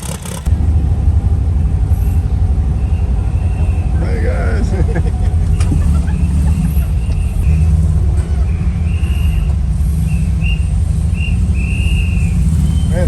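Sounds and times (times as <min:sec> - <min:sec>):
car engine running: 0:00.0 - 0:13.0
road rumble: 0:00.0 - 0:13.0.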